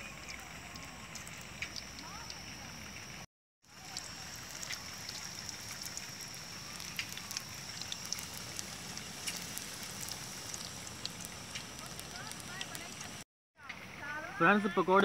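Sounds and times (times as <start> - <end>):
batter deep-frying in oil: 0.0 - 14.6.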